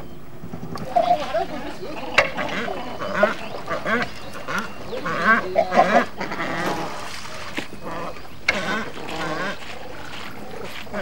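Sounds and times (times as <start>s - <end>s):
cormorants calling: 0.0s - 11.0s.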